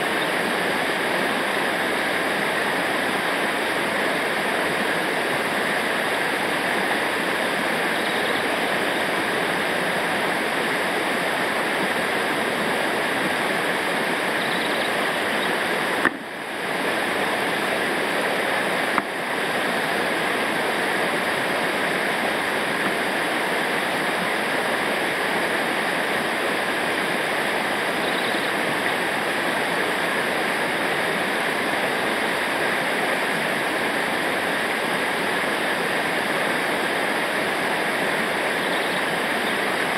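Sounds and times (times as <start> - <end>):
roar of rushing water: 0.0 - 39.9.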